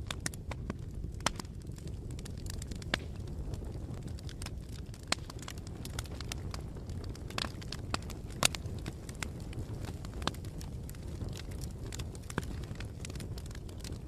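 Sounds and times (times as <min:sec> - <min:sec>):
bonfire rumbling: 0:00.0 - 0:14.0
burning wood crackling and popping: 0:00.0 - 0:14.0.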